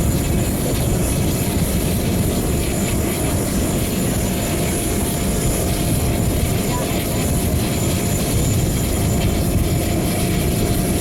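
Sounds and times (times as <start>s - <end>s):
fighter jet engine noise: 0.0s - 11.0s.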